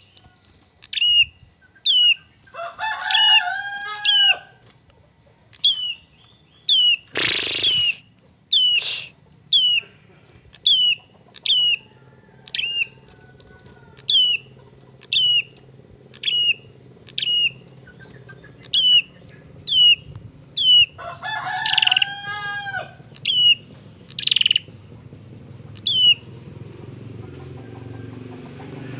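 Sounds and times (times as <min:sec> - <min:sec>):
bird chirping: 0:00.0 - 0:04.4, 0:05.0 - 0:13.1, 0:13.8 - 0:28.9.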